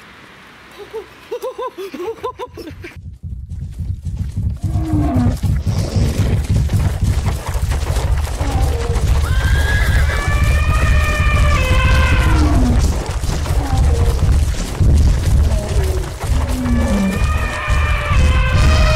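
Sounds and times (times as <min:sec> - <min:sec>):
loud low animal rumble: 0:03.0 - 0:18.9.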